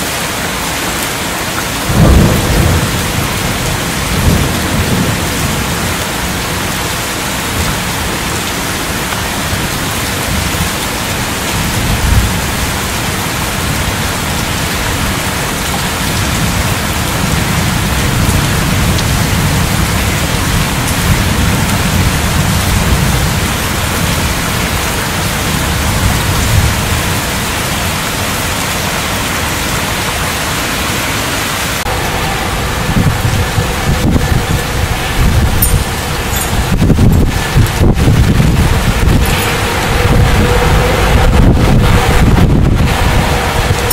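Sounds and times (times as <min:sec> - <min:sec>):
heavy rain pouring: 0:00.0 - 0:43.9
low thunder rumbling: 0:01.8 - 0:28.3, 0:31.8 - 0:43.9.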